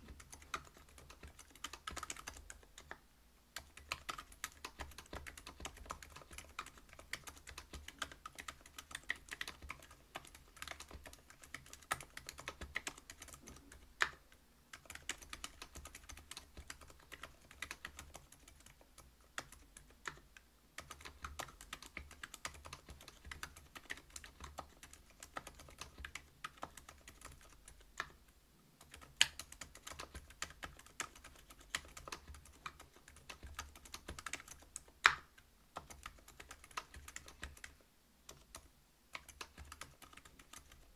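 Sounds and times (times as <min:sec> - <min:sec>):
mechanical keyboard typing: 0:00.0 - 0:03.0, 0:03.6 - 0:28.2, 0:28.8 - 0:40.9.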